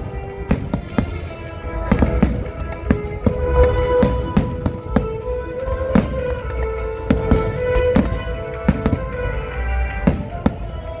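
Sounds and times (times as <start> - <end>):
fireworks bursting in sharp bangs: 0.0 - 9.4, 10.0 - 11.0
music with long held notes: 0.0 - 11.0.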